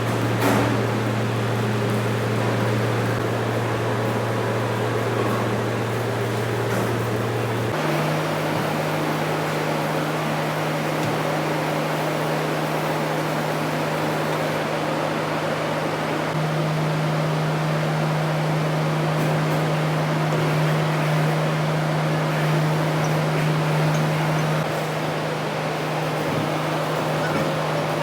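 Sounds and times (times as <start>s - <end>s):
workshop machinery droning: 0.0s - 28.0s.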